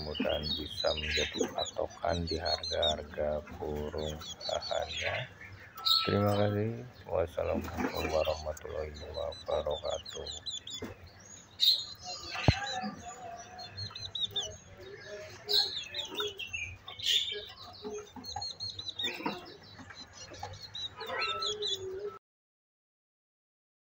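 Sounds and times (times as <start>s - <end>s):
songbirds chirping: 0.0s - 22.2s.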